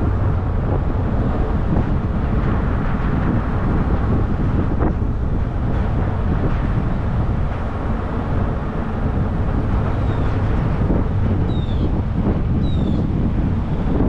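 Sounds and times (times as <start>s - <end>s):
tyres and engine rumbling: 0.0s - 14.0s
wind buffeting microphone: 0.0s - 14.0s.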